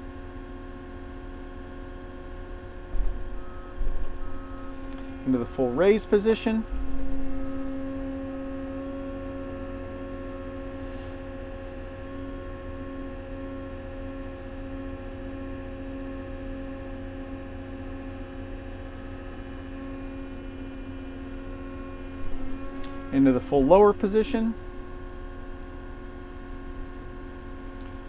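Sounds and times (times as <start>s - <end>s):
diesel engine steady hum: 0.0s - 28.0s.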